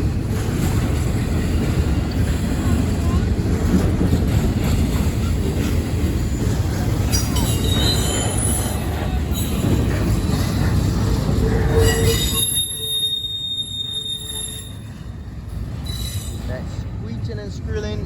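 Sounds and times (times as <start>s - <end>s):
freight train rumbling past: 0.0s - 18.0s
train wheels squealing on rails: 0.5s - 3.3s, 4.4s - 16.9s.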